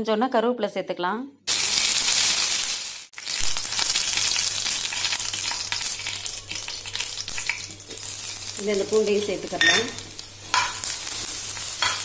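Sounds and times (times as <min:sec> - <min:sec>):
leaves sizzling in hot oil: 0:01.5 - 0:12.0.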